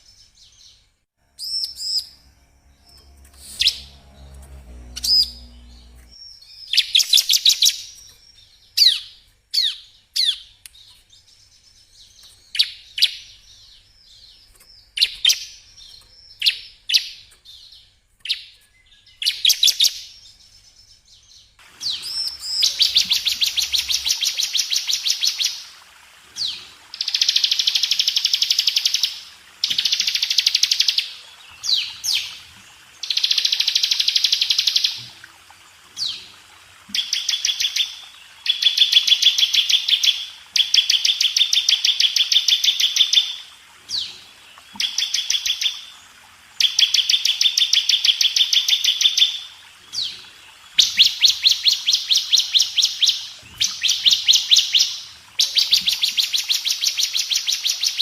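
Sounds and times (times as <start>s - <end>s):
bird chirping and trilling: 0.0s - 10.9s, 11.8s - 25.7s, 26.4s - 35.1s, 36.9s - 44.2s, 50.8s - 58.0s.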